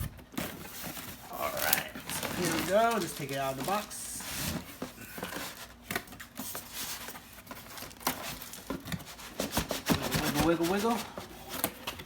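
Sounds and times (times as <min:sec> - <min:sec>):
cardboard and foam rustling: 0:00.0 - 0:12.0.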